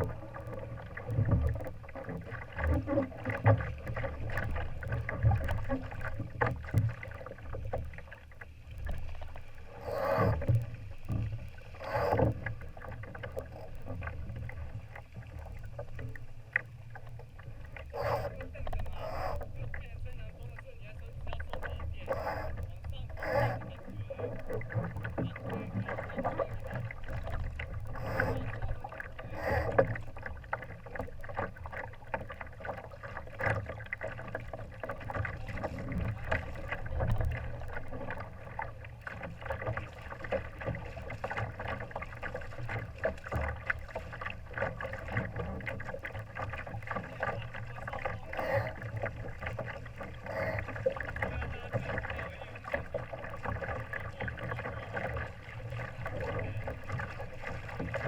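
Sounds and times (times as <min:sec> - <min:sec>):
water splashing against hull: 0:00.0 - 0:58.0.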